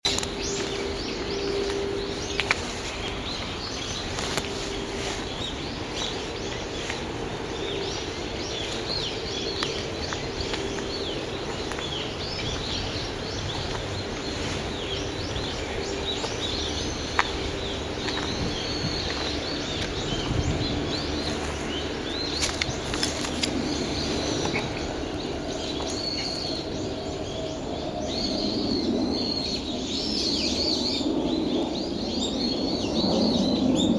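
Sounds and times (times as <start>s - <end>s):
wild birds chirping and whistling: 0.1s - 33.9s.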